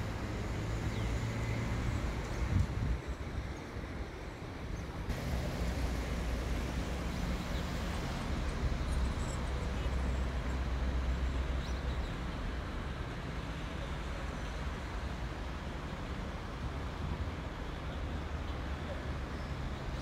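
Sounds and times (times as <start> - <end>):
low engine hum: 0.0 - 19.9
road traffic noise: 0.0 - 20.0.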